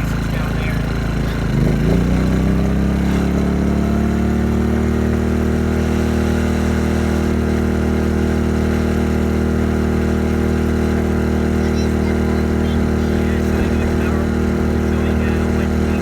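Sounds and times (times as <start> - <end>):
generator engine speeding up: 0.0 - 16.0.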